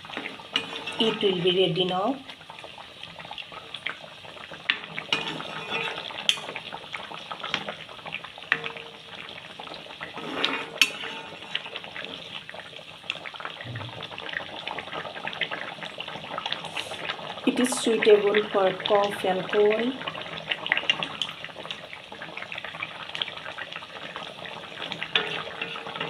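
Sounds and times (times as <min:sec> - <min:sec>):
pot hissing: 0:00.0 - 0:02.4, 0:04.7 - 0:07.1, 0:08.5 - 0:12.7, 0:13.4 - 0:21.6, 0:22.2 - 0:26.0.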